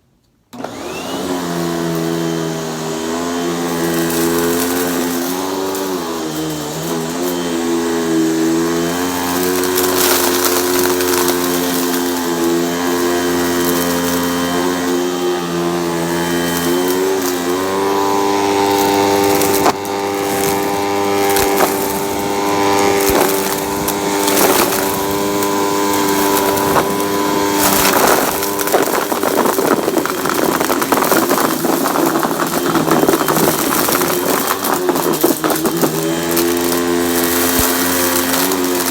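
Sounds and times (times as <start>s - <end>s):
vacuum cleaner motor whine: 0.5s - 38.9s.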